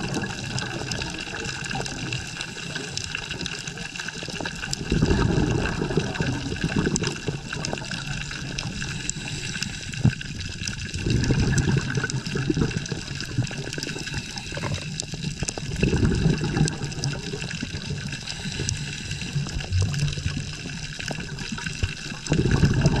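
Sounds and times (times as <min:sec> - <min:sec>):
diver exhaling bubbles: 0:00.0 - 0:23.0
faint underwater clicks: 0:00.0 - 0:23.0.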